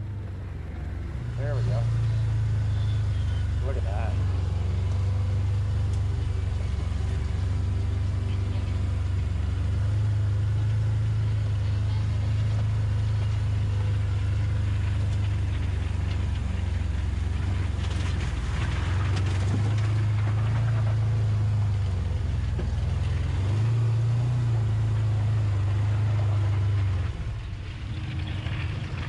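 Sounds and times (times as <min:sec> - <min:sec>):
vehicle engine running: 0:00.0 - 0:29.0
wheels splashing through water: 0:00.0 - 0:29.0.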